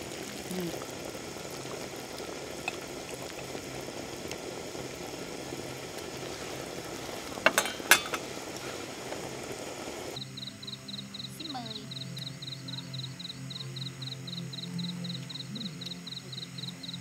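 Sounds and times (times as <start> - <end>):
broth bubbling in pot: 0.0 - 17.0.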